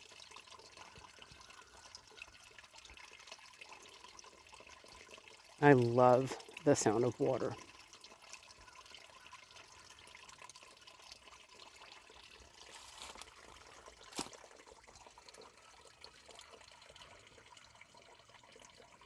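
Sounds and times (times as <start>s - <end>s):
stream trickling over rocks: 0.0s - 19.0s.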